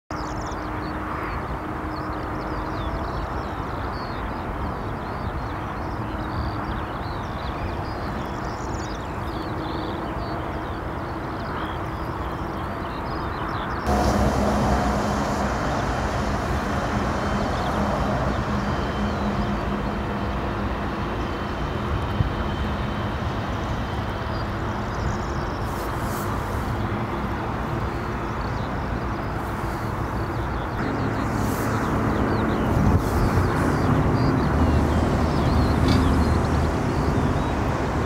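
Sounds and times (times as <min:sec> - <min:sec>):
jet engine whine: 0:00.2 - 0:38.0
jet engines running: 0:00.2 - 0:38.0.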